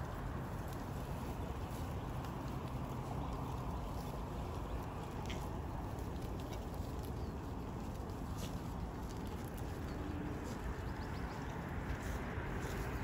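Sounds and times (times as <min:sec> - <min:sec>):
goats rustling and clicking: 0:00.0 - 0:13.0
steady low rumble: 0:00.0 - 0:13.0.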